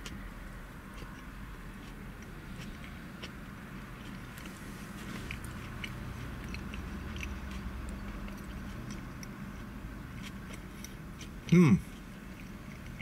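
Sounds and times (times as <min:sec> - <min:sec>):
man chewing: 0:00.0 - 0:13.0.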